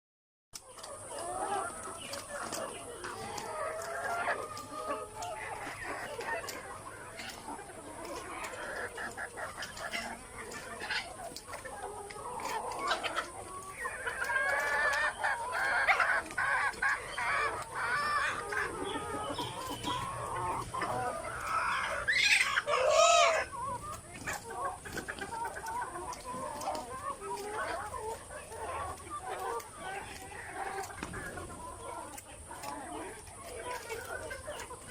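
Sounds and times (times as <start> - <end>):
chickens clucking: 0.6 - 34.9.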